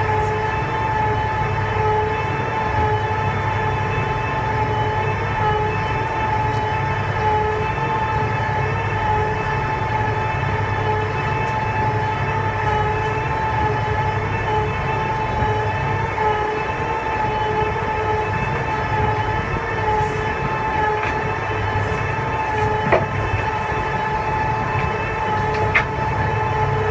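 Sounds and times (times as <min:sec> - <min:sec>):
feed mixer auger drone: 0:00.0 - 0:26.9.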